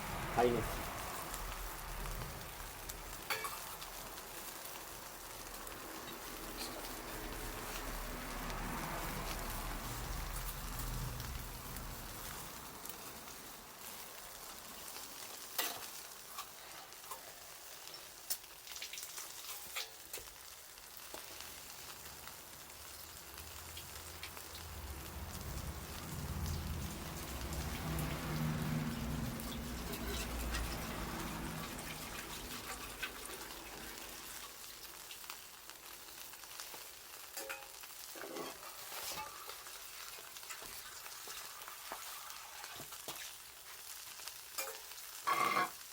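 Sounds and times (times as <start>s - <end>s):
bonfire crackling and popping: 0.0s - 45.9s
food sizzling on a grill: 0.0s - 45.9s.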